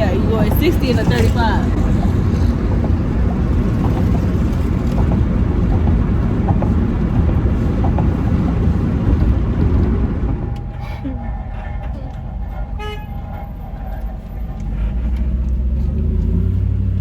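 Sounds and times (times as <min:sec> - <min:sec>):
car driving fast: 0:00.0 - 0:17.0
road and wind noise: 0:00.0 - 0:17.0.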